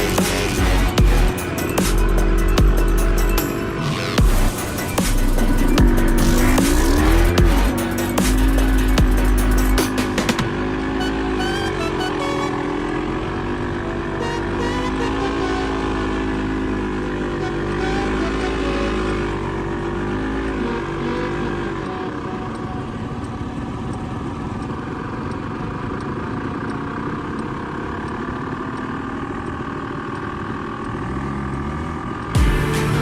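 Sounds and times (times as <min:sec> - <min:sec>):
quad bike engine running: 0:00.0 - 0:33.0.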